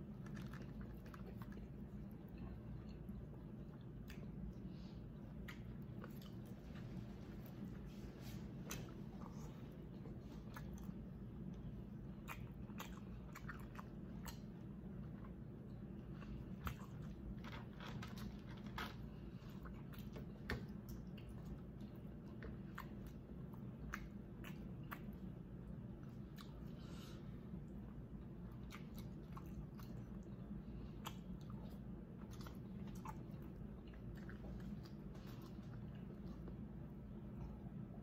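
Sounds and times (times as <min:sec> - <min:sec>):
steady low hum: 0:00.0 - 0:38.0
wet chewing and mouth smacks: 0:00.0 - 0:38.0.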